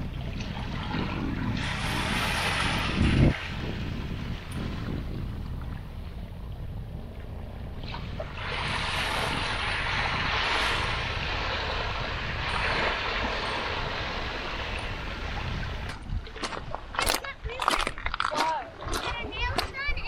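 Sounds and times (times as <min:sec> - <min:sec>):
rushing water: 0:00.0 - 0:05.9, 0:07.8 - 0:19.8
wind: 0:00.0 - 0:20.0.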